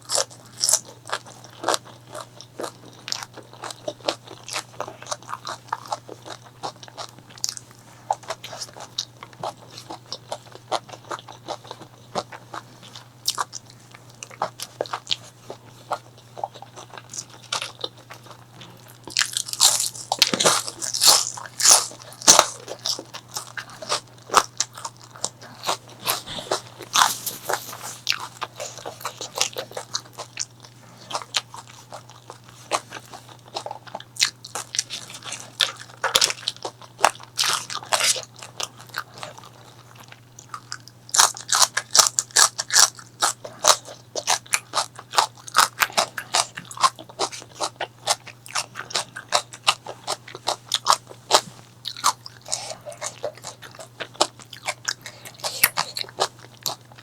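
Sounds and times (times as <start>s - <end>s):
chewing and crunching crisp food: 0.0s - 57.0s.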